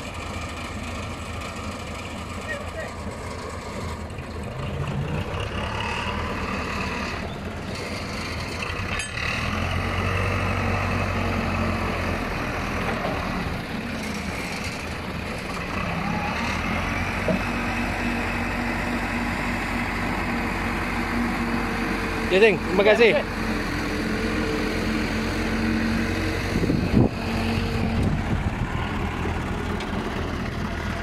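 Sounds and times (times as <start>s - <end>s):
backhoe engine idling: 0.0s - 31.0s
forklift engine idling: 0.0s - 31.0s.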